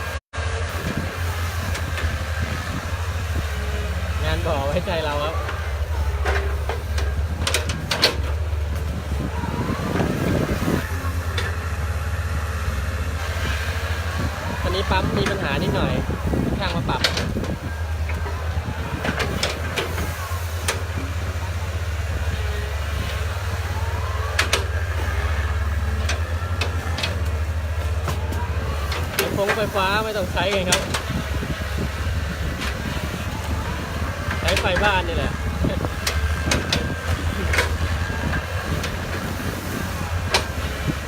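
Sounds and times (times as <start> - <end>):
heavy machine engine rumbling: 0.0 - 41.0.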